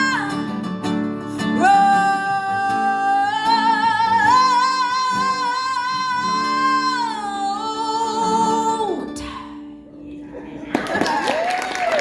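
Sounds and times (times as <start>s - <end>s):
acoustic guitar: 0.0s - 11.2s.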